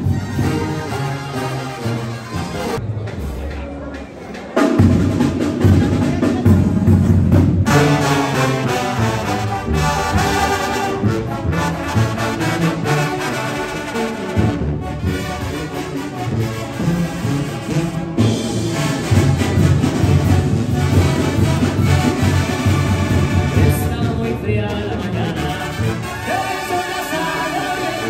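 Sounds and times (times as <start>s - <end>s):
brass background music: 0.0s - 2.8s, 4.8s - 28.0s.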